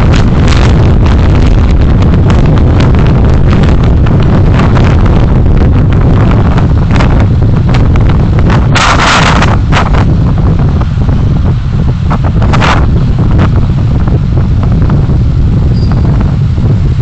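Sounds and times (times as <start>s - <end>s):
road vehicle rumble: 0.0s - 17.0s
wind buffeting microphone: 0.0s - 17.0s.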